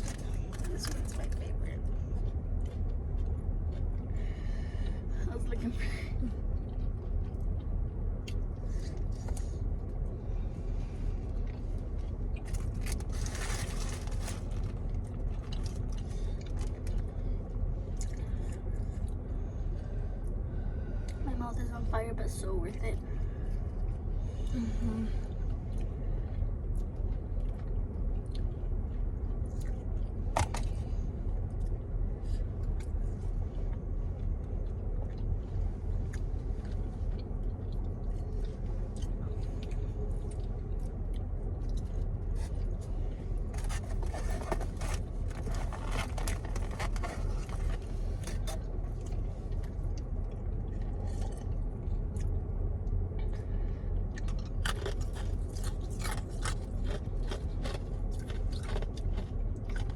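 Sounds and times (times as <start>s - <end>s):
chewing and crunching: 0.0s - 21.4s, 22.7s - 59.9s
steady low rumble: 0.0s - 59.9s.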